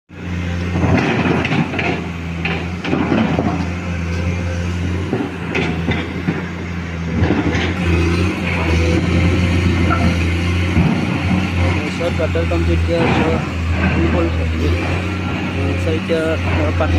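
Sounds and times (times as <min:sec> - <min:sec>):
excavator diesel engine running: 0:00.1 - 0:16.9
digging scrapes and knocks: 0:00.6 - 0:16.9.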